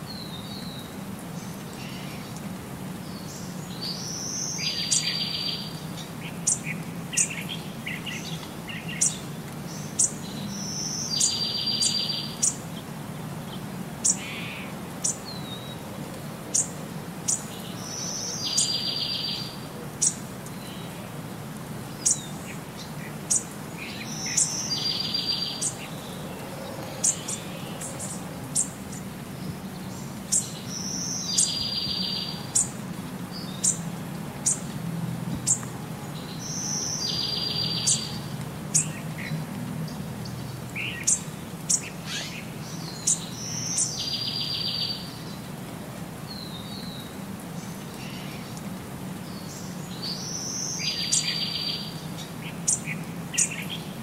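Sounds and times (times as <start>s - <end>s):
birds chirping: 0.1s - 45.6s, 46.2s - 54.0s.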